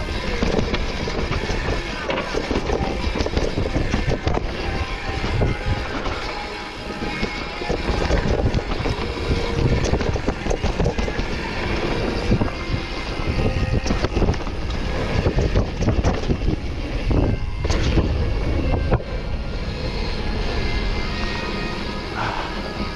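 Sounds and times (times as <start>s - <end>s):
bike rattling and knocking: 0.0s - 21.3s
wind buffeting microphone: 0.0s - 22.9s.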